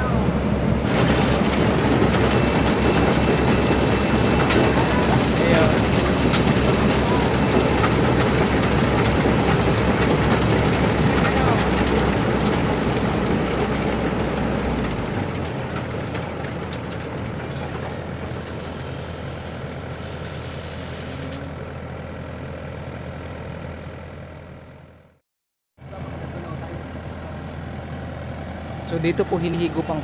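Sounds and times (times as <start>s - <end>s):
threshing machine engine drone: 0.0s - 25.2s, 25.8s - 30.0s.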